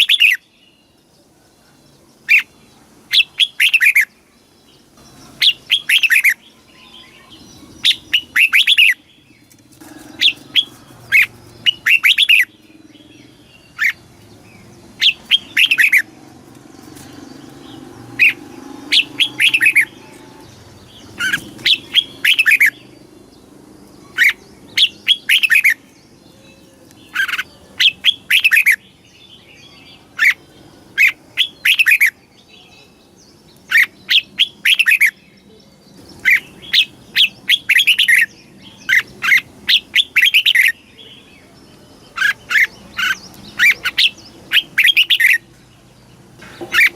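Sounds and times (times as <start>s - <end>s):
bird singing whistled notes: 0.0s - 1.0s, 2.2s - 4.1s, 5.0s - 9.5s, 10.2s - 16.1s, 17.4s - 23.0s, 24.0s - 30.4s, 31.0s - 45.5s.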